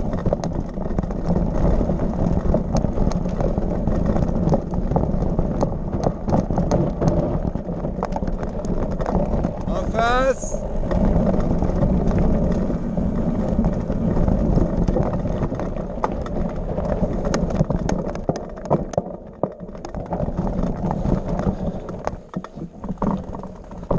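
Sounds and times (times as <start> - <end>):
stones and bike rattling: 0.0 - 23.9
tyres rumbling on dirt trail: 0.0 - 23.9.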